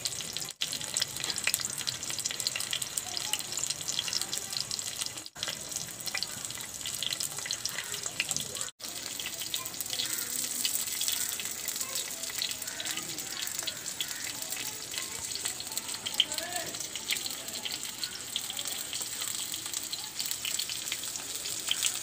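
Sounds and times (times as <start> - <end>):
vegetables frying in oil: 0.0 - 22.0.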